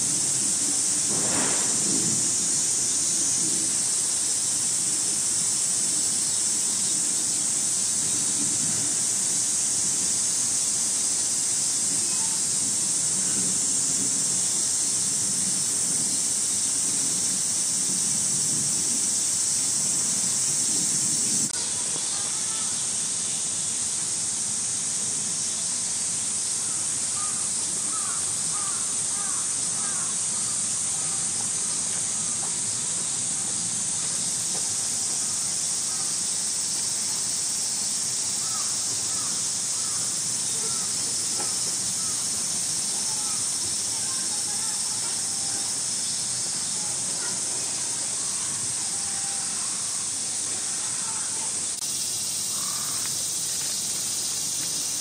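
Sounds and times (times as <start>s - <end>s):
cicada chorus hissing: 0.0s - 55.0s.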